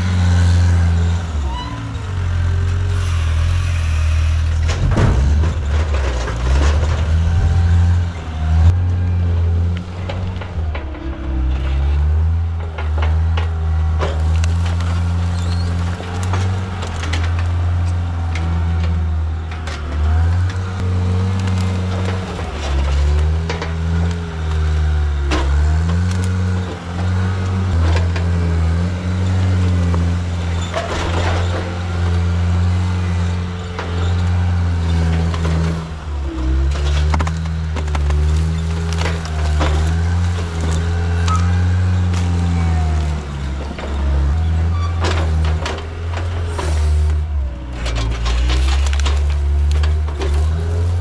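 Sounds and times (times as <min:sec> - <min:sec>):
diesel engine under load: 0:00.0 - 0:51.0
knocks and clunks: 0:04.5 - 0:51.0.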